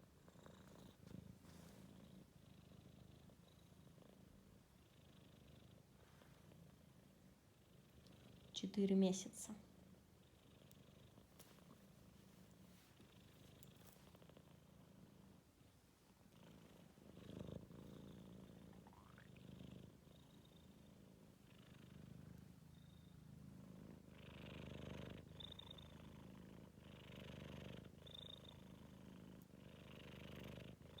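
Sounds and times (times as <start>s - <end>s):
kitten snoring or purring: 0.0s - 8.6s, 12.9s - 31.0s.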